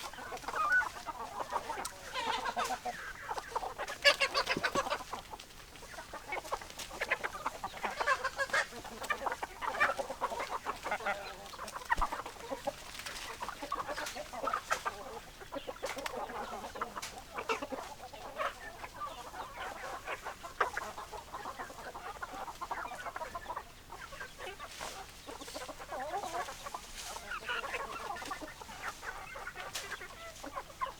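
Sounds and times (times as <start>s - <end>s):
hens clucking: 0.0s - 30.9s.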